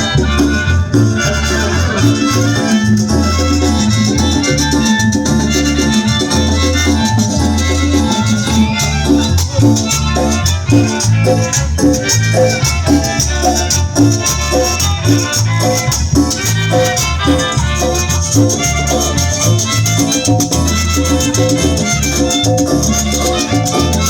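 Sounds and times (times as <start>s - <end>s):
latin dance band playing: 0.0s - 24.0s.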